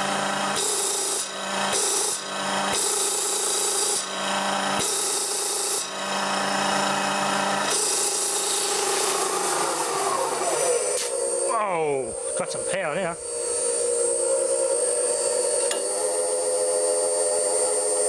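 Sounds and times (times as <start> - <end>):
compressor humming: 0.0 - 18.0.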